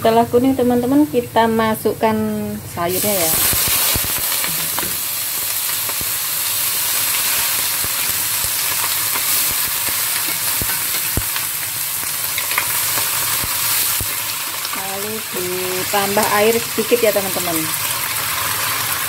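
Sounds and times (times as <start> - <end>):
vegetables sizzling in hot oil: 2.4 - 19.0.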